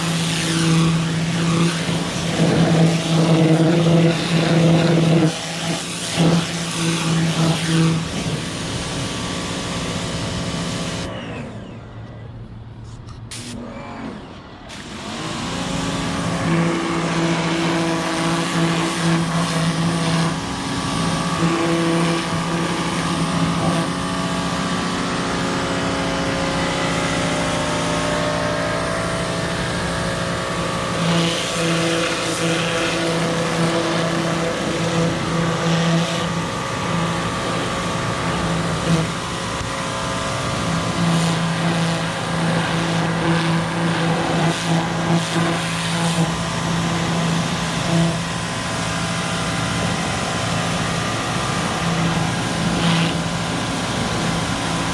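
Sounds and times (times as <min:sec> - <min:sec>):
pressure washer motor humming: 0:00.0 - 0:12.2, 0:13.2 - 0:54.9.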